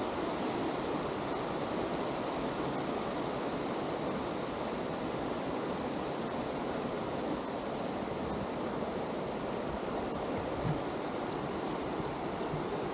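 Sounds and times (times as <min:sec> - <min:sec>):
river water rushing over cascade: 0:00.0 - 0:12.9.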